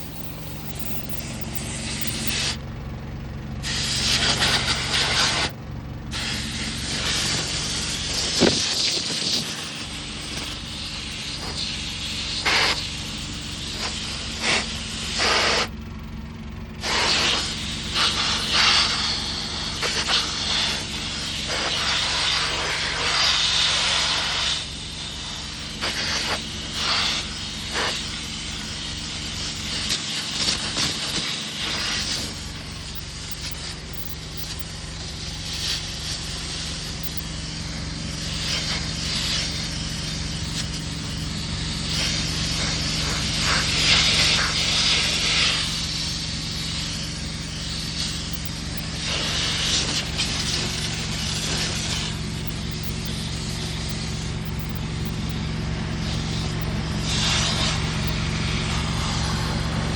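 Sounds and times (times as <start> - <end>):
air blow gun hissing: 0.0 - 2.7, 3.6 - 15.8, 16.7 - 59.9
steady engine hum: 0.0 - 59.9.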